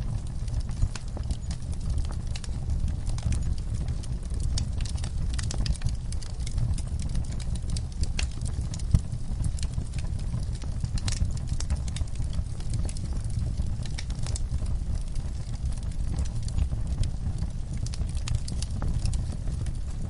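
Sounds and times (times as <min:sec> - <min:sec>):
burning wood crackling and popping: 0:00.0 - 0:20.0
low rumble of flames: 0:00.0 - 0:20.0.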